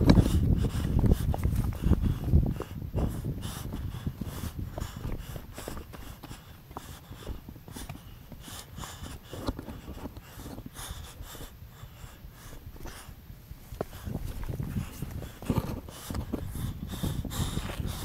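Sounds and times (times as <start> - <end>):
boots and hands scraping rock: 0.0 - 18.0
person breathing: 0.0 - 18.0
wind rumbling on microphone: 0.0 - 18.0.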